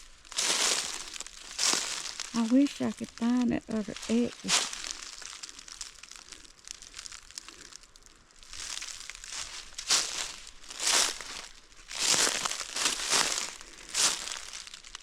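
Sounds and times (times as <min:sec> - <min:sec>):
footsteps crunching through dry leaves: 0:00.0 - 0:15.0
soft leaf rustle: 0:00.0 - 0:15.0.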